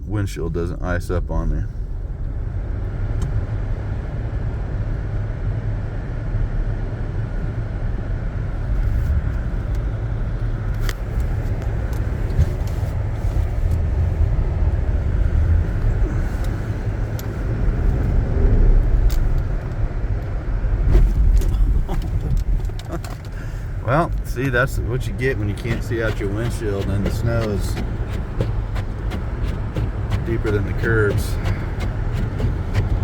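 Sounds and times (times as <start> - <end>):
engine and tyres rumbling: 0.0 - 33.0.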